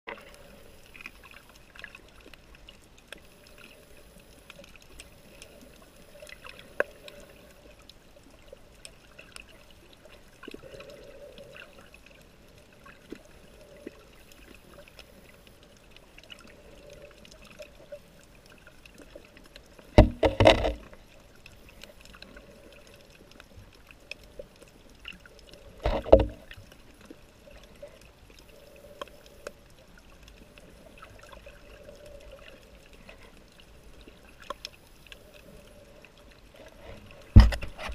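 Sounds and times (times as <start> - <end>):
small underwater clicks: 0.1 - 37.9.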